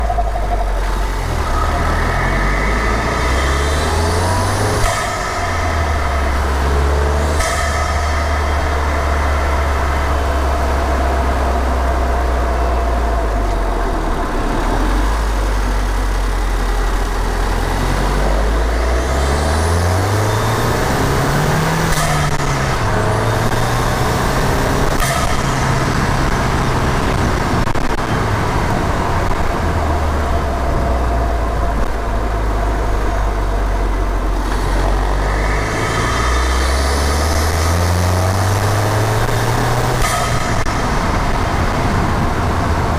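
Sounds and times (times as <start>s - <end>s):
turbo whine: 0.0s - 42.9s
turbocharged engine revving: 0.0s - 42.9s.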